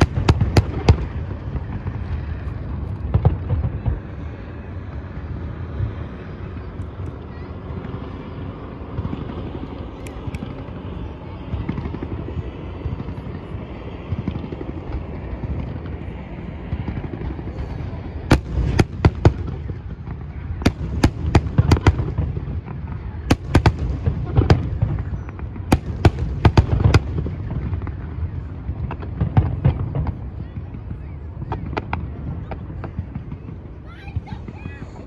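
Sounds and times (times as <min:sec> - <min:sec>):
fireworks bangs and cracks: 0:00.0 - 0:08.0, 0:11.4 - 0:35.0
fireworks rumble: 0:00.0 - 0:35.0.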